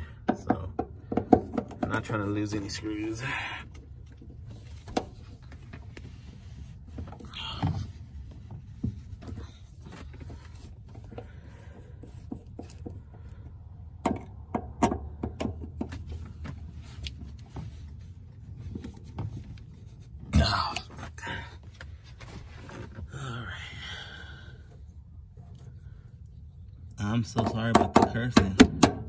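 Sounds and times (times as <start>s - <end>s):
steady low hum: 0.0s - 27.7s.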